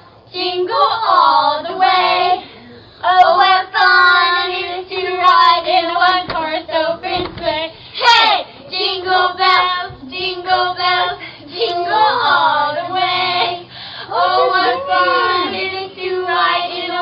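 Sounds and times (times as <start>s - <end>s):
children singing a carol: 0.3s - 17.0s.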